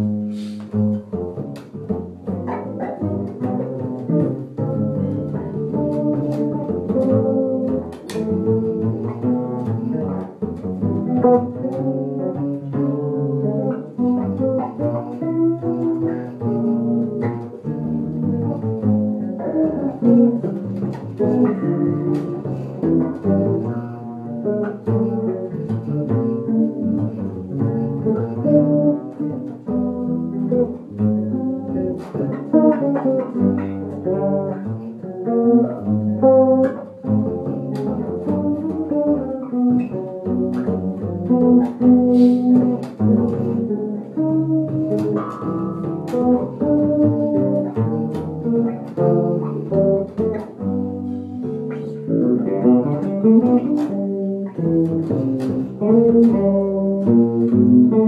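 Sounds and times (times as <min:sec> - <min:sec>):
electric bass fingerpicked run: 0:00.0 - 0:58.0
walking upright bass: 0:00.0 - 0:58.0.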